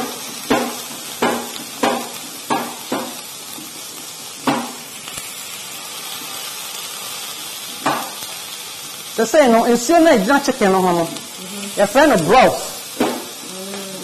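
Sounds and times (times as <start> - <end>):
chicken sizzling in a pot: 0.0 - 14.0.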